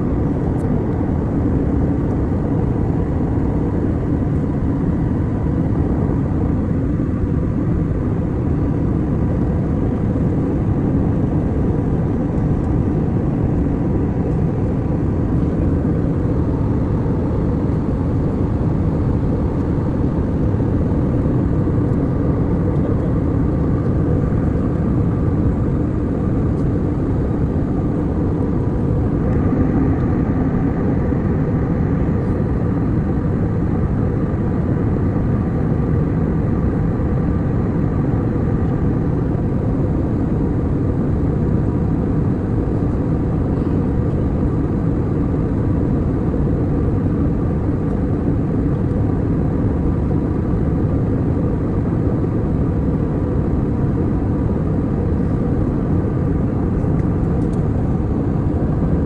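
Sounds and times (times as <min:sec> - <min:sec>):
airliner cabin drone: 0:00.0 - 0:59.0
faint steady hum: 0:00.0 - 0:59.0.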